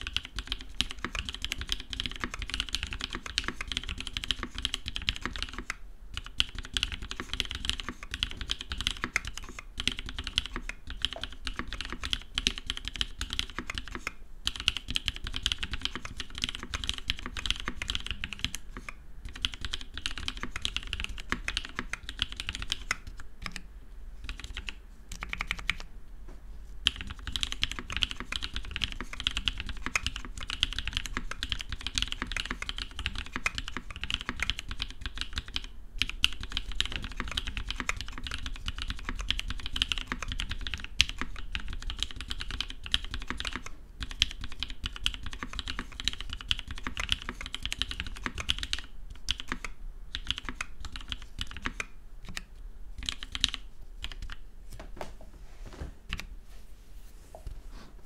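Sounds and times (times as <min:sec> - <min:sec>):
fast mechanical keyboard typing: 0:00.0 - 0:23.6, 0:24.2 - 0:25.8, 0:26.8 - 0:54.4.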